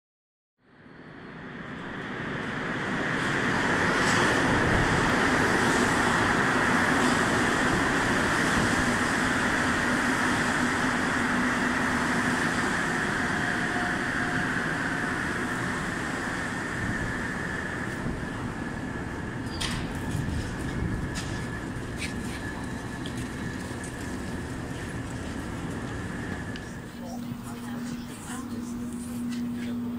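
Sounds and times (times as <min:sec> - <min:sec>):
train pulling into station: 0:00.7 - 0:29.9.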